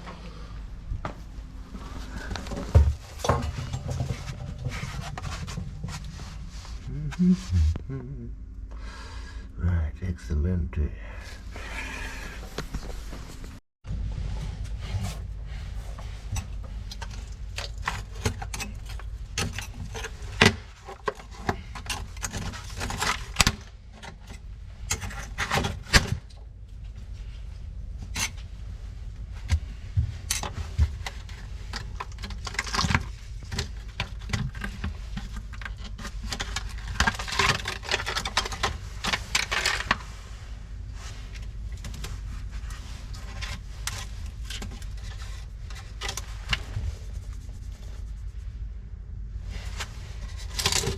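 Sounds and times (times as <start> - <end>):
steady low hum: 0.0 - 50.9
scraping and rubbing: 1.0 - 7.9, 11.4 - 24.2, 27.0 - 50.9.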